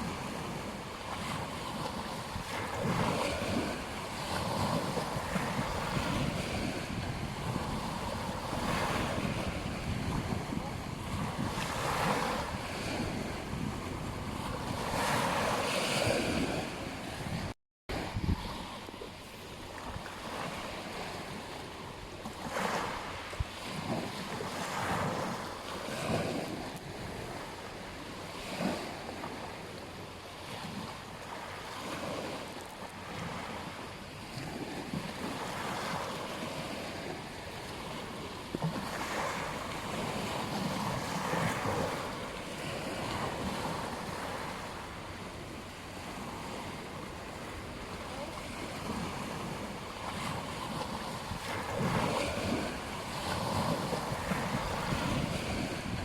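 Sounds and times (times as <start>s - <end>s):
wind on microphone: 0.0s - 29.8s, 30.4s - 56.0s
ocean waves breaking on beach: 0.0s - 56.0s.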